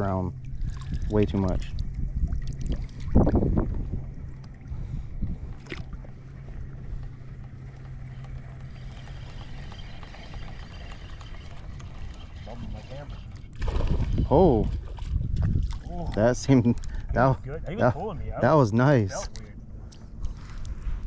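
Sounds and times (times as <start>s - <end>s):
low steady hum: 0.0s - 21.0s
water noise: 0.0s - 21.0s
wind: 0.0s - 21.0s.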